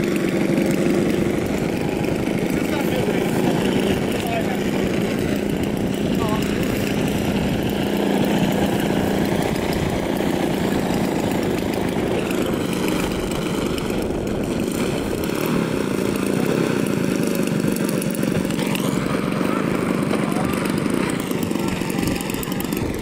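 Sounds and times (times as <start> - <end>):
model airplane engine running: 0.0 - 23.0
wind buffeting microphone: 0.0 - 23.0.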